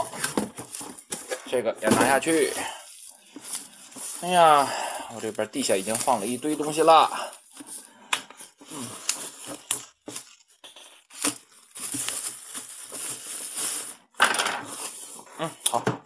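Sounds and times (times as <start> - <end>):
plastic film crinkling: 0.0 - 15.5.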